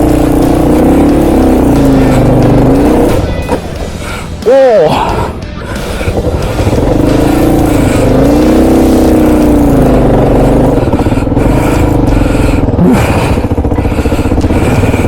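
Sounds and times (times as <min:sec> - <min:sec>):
motorcycle engine pulling under load: 0:00.0 - 0:04.2, 0:05.6 - 0:15.0.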